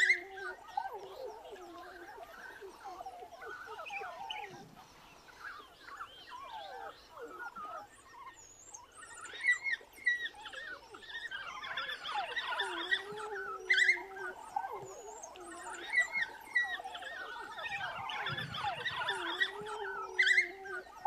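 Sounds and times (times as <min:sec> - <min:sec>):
wild dogs twittering and squeaking: 0:00.0 - 0:21.0.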